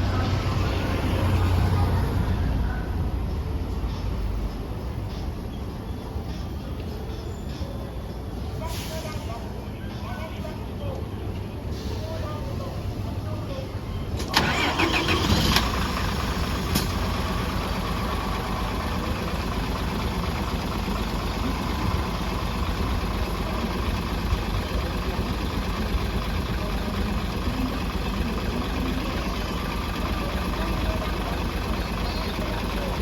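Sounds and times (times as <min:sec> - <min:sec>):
bus engine idling: 0:00.0 - 0:33.0.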